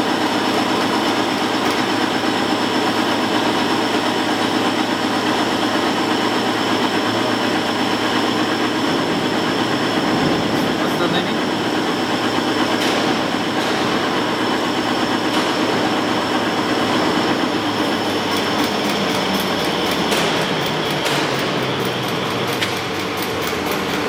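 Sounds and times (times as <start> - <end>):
machine running: 0.0 - 24.0.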